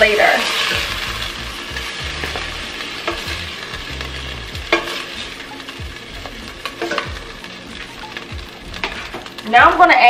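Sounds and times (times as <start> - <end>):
butter sizzling in a pot: 0.0 - 10.0.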